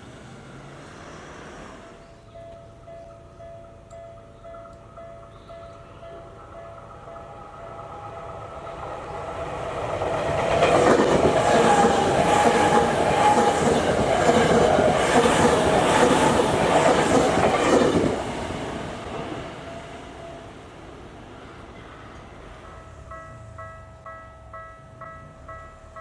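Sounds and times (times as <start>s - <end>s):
electric train passing: 0.0s - 26.0s
crossing warning bell: 1.9s - 21.1s, 22.4s - 26.0s.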